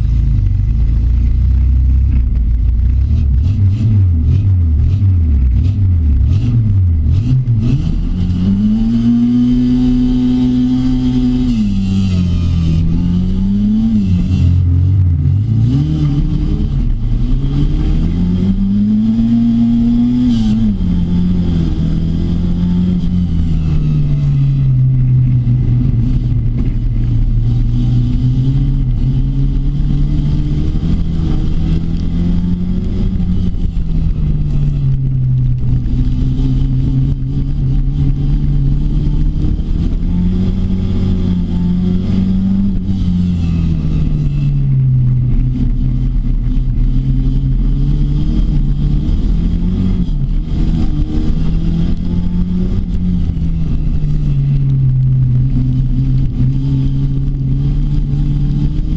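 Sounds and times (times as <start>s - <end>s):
racing car engine revving: 0.0s - 58.9s.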